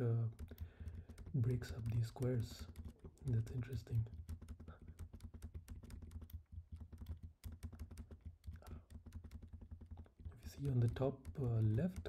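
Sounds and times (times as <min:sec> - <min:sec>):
keyboard keys tapping: 0:00.0 - 0:12.0.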